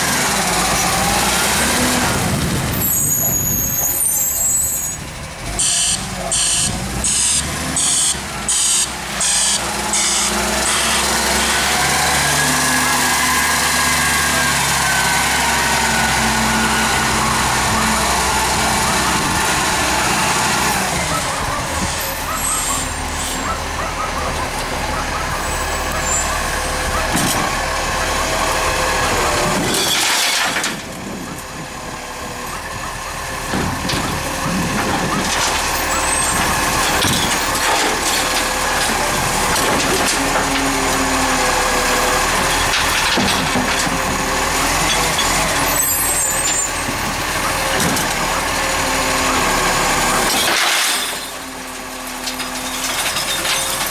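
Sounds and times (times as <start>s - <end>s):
garbage truck engine running: 0.0s - 53.9s.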